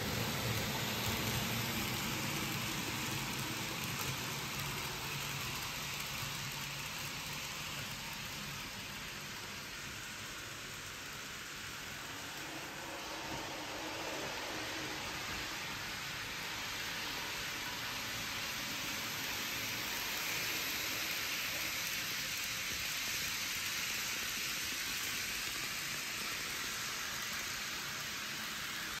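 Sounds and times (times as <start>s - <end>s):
model train whirring: 0.0s - 29.0s.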